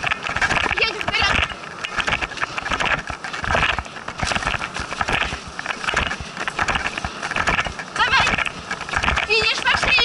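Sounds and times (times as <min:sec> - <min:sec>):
sharp clicks and knocks: 0:00.0 - 0:10.0.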